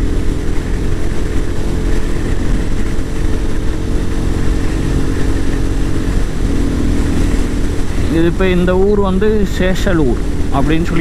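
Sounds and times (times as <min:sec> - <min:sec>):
motorcycle engine cruising: 0:00.0 - 0:11.0
wind noise on microphone: 0:00.0 - 0:11.0.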